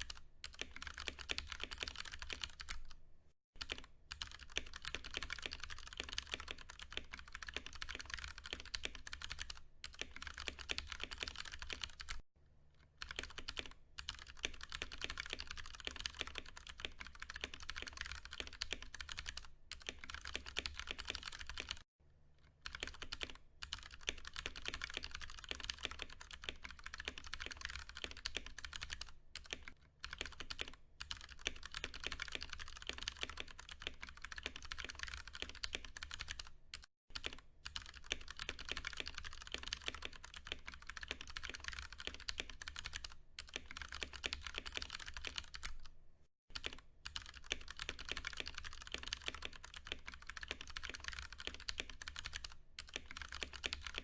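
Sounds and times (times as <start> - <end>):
fast typing on mechanical keyboard: 0.0 - 3.0, 3.6 - 12.2, 13.0 - 21.9, 22.6 - 45.9, 46.5 - 54.0.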